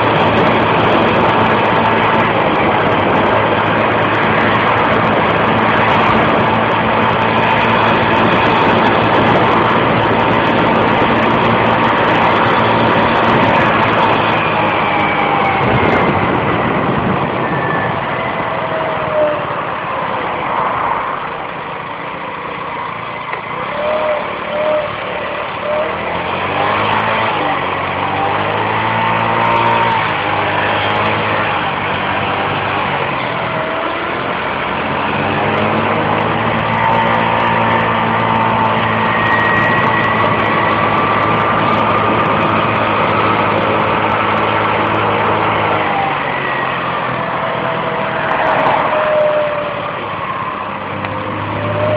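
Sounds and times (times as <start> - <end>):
scooter engine running: 0.0 - 51.9.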